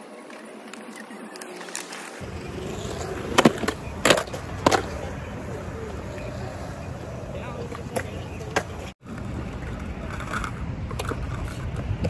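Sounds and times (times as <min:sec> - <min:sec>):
skateboard wheels rolling on concrete: 0:00.0 - 0:12.0
skateboard clacks: 0:00.3 - 0:12.0.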